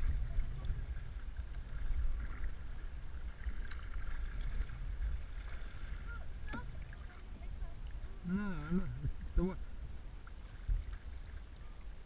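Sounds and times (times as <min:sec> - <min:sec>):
paddles dipping through water: 0:00.0 - 0:12.0
water swishing along hull: 0:00.0 - 0:12.0
wind rumble on microphone: 0:00.0 - 0:12.0.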